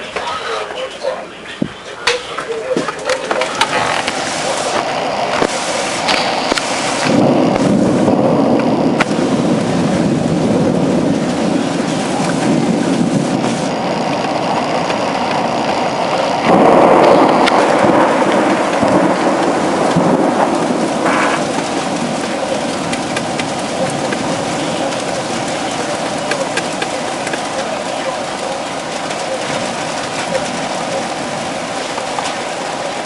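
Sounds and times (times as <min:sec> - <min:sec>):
heavy rain: 0:00.0 - 0:33.0
rolling thunder: 0:03.1 - 0:33.0.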